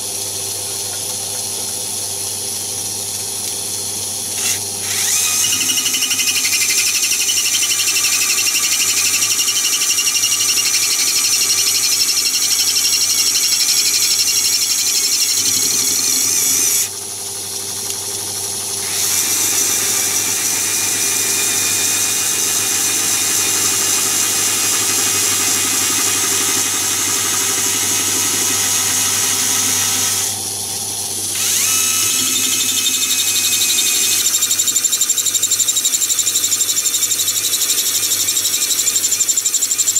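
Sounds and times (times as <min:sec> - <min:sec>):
lathe humming: 0:02.8 - 0:36.0
cordless screwdriver motor whining: 0:04.3 - 0:17.0, 0:18.7 - 0:30.4, 0:31.2 - 0:39.9.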